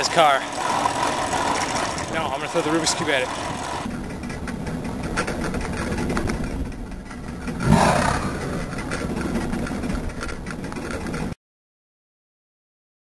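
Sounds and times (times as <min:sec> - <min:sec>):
car engine running: 0:00.0 - 0:11.3.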